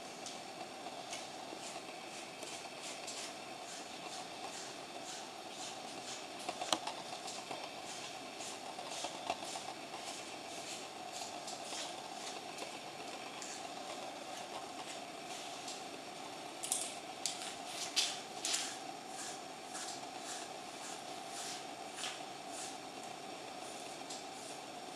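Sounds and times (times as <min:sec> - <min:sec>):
faint steady hum: 0:00.0 - 0:24.9
brush scratching through dog fur: 0:01.1 - 0:15.7, 0:17.8 - 0:22.8, 0:23.6 - 0:24.7.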